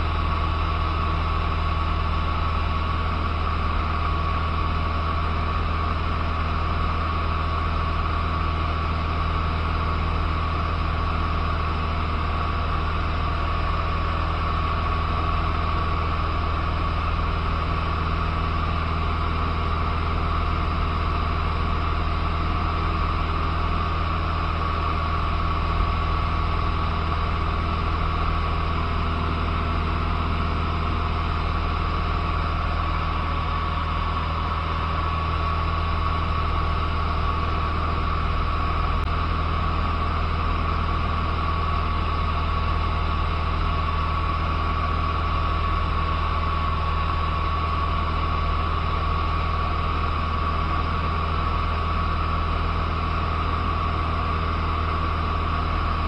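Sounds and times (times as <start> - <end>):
aircraft engine and propeller droning: 0.0 - 56.0
thin steady whine: 0.0 - 56.0.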